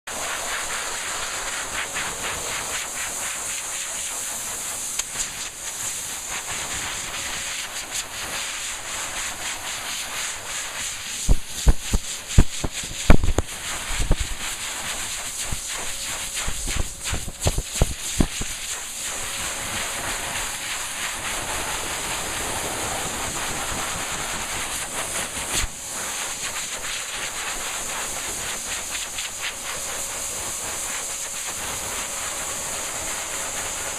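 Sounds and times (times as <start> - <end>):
blow dryer rushing air: 0.1 - 33.9.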